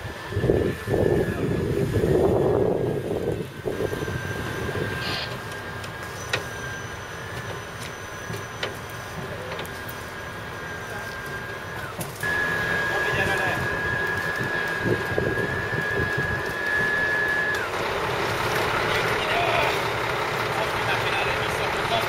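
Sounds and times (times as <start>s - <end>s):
heavy machinery running: 0.0s - 22.0s
thin high whine: 0.1s - 17.8s.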